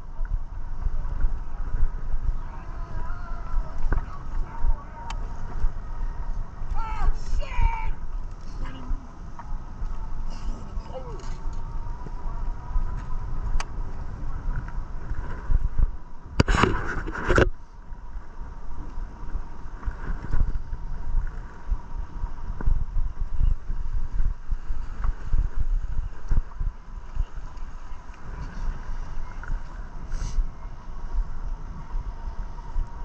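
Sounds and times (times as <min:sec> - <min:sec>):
road rumble: 0:00.0 - 0:33.0
wind buffeting: 0:00.0 - 0:33.0.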